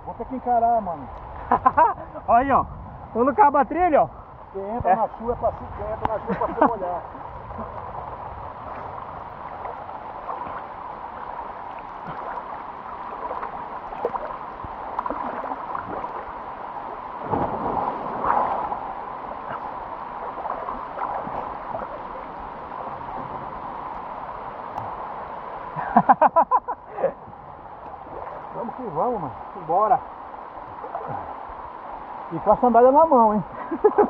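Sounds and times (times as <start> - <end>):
rushing river water: 0.0 - 34.0
water sloshing and gurgling: 0.0 - 34.0
water splashing: 4.1 - 34.0.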